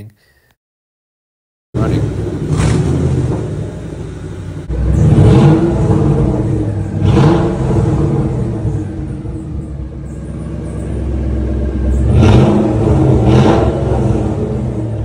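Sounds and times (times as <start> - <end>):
car engine revving: 1.8 - 15.0.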